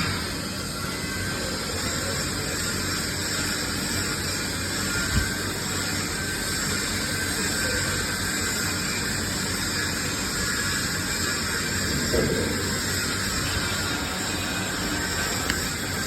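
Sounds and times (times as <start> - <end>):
low electrical hum: 0.0 - 16.0
welding arc hissing: 0.0 - 16.0.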